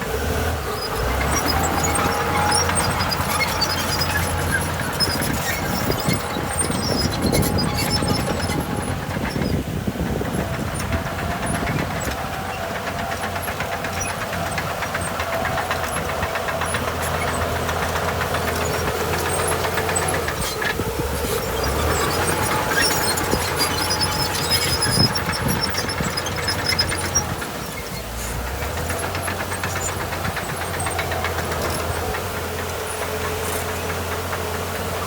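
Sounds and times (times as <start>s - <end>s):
continuous clatter: 0.0s - 35.0s
heavy diesel machinery running: 0.0s - 35.0s.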